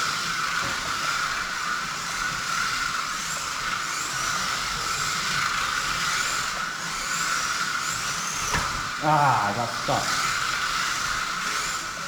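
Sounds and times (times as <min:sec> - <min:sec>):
rc car motor whine: 0:00.0 - 0:12.0.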